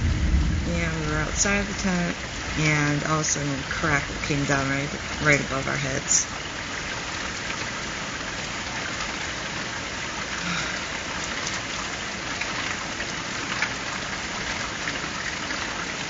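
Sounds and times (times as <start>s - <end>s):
raindrops ticking: 0.0s - 16.0s
steady rain hiss: 0.0s - 16.0s.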